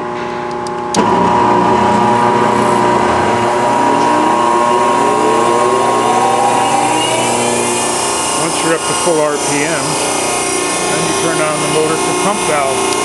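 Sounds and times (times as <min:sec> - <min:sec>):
steady converter hum: 0:00.0 - 0:13.0
electric motor whine rising: 0:01.0 - 0:13.0.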